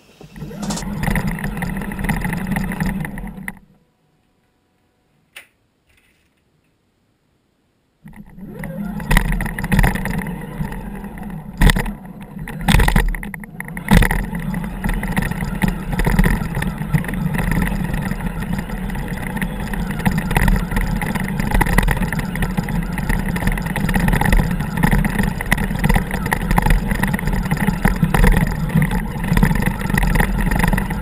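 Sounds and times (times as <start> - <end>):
rc car motor whirring: 0.0 - 3.6, 8.1 - 31.0.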